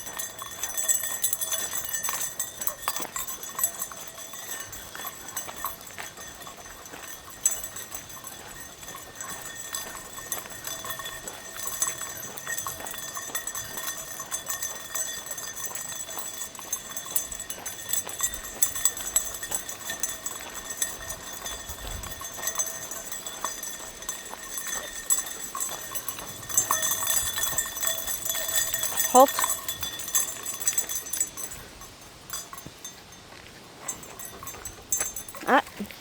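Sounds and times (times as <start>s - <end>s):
footsteps of person and dogs: 0.0s - 36.0s.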